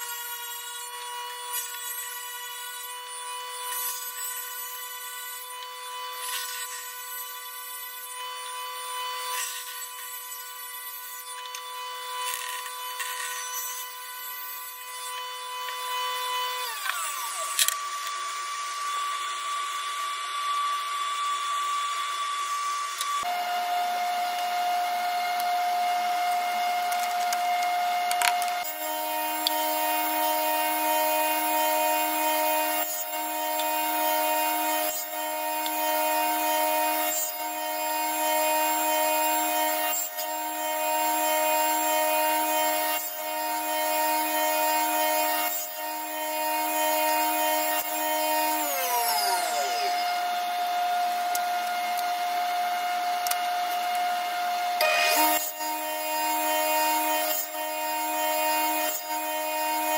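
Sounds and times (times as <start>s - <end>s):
table saw motor whine: 0.0s - 59.9s.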